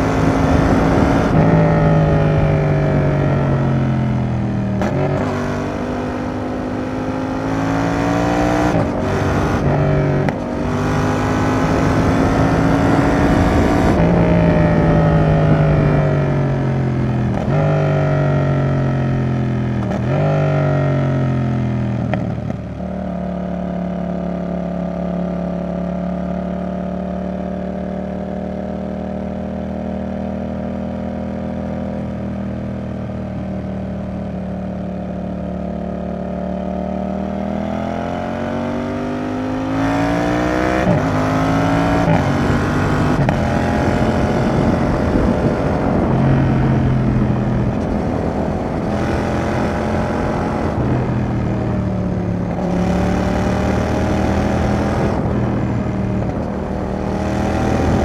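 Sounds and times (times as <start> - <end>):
motorcycle engine revving: 0.0 - 26.6, 27.3 - 58.0.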